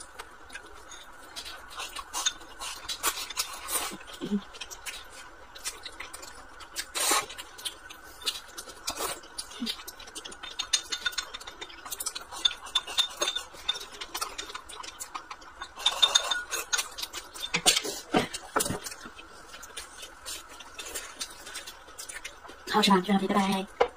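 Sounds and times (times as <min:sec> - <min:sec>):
eating noises: 0:00.0 - 0:23.8.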